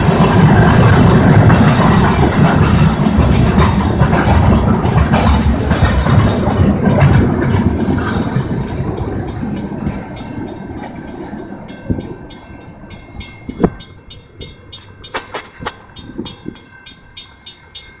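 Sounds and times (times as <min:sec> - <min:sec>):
sharp metallic clanks: 0:00.0 - 0:18.0
train rolling past on track: 0:00.0 - 0:18.0
wheels clicking over rails: 0:00.0 - 0:18.0.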